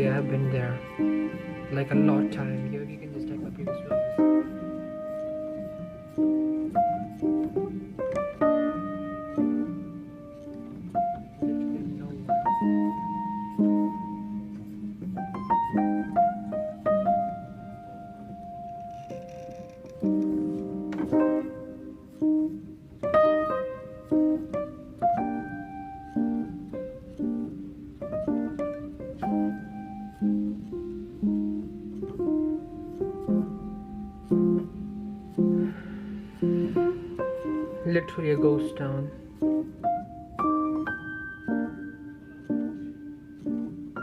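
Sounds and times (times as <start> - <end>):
piano background music: 0.0 - 44.0.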